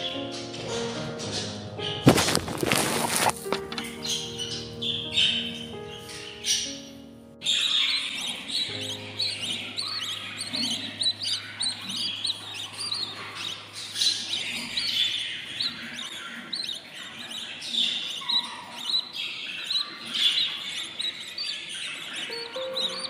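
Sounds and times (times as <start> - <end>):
budgie chicks chirping: 0.0 - 23.0.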